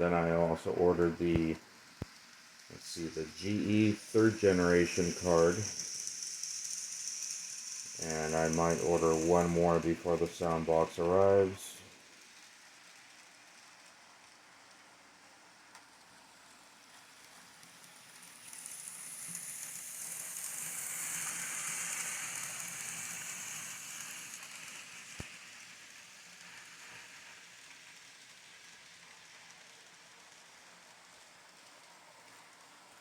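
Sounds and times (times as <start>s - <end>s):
model train running past: 0.0s - 33.0s.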